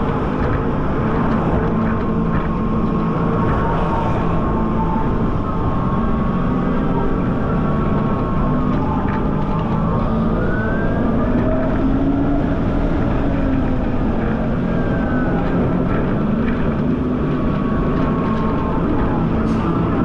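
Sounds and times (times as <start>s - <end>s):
faint whining tones: 0.0s - 20.0s
wind noise on microphone: 0.0s - 20.0s.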